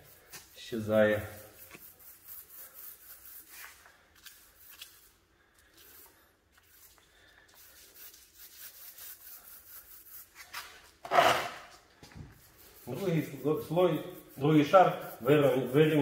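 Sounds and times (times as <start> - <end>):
paint roller rubbing: 0.0 - 16.0.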